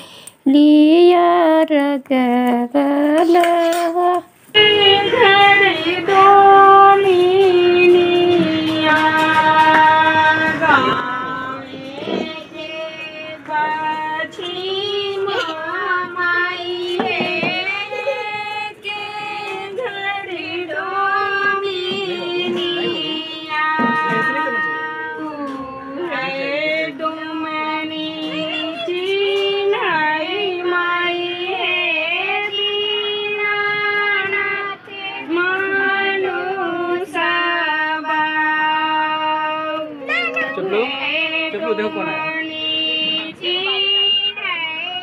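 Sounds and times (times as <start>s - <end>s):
woman singing: 0.4s - 45.0s.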